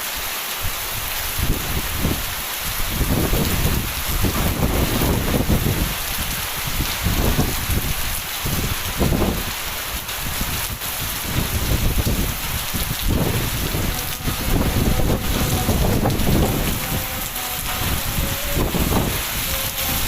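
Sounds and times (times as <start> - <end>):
heavy rain falling: 0.0 - 20.0
wind gusting on microphone: 0.6 - 20.0.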